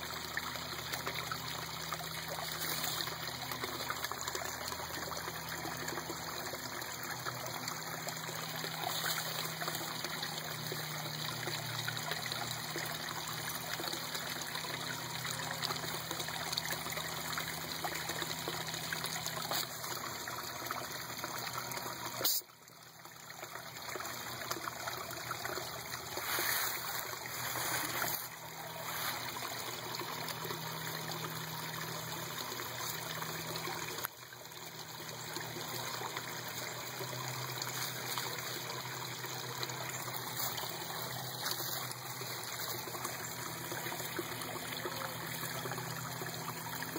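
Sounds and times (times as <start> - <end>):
water trickling into pond: 0.0 - 46.9.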